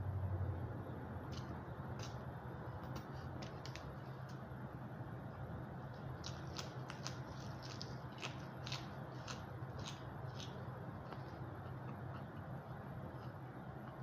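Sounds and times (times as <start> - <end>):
steady low hum: 0.0 - 14.0
crunchy chewing of green onion: 1.3 - 4.5, 5.8 - 14.0.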